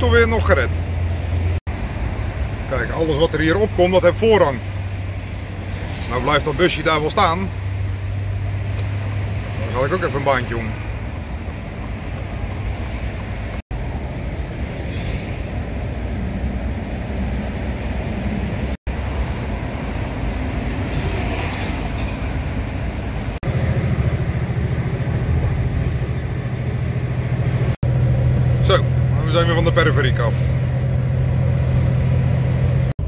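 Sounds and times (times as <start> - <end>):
diesel engine humming: 0.0 - 33.0
road and tyre noise: 0.0 - 33.0.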